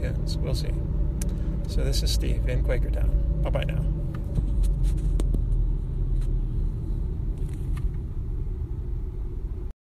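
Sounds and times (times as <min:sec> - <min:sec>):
car road and engine rumble: 0:00.0 - 0:09.7.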